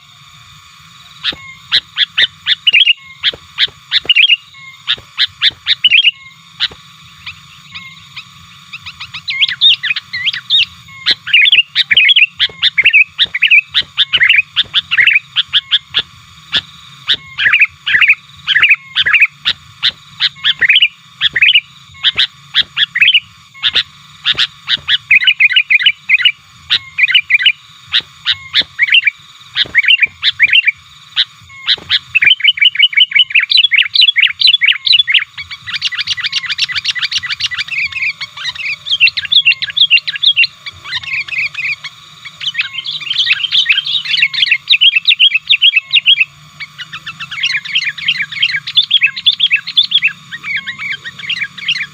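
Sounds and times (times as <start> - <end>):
bulbul chirping: 0.0 - 51.9.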